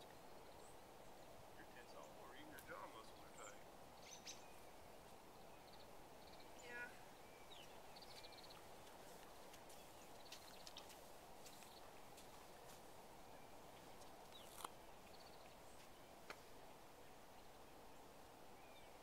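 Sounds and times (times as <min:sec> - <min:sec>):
faint bird chirps: 0:00.0 - 0:12.1, 0:13.2 - 0:19.0.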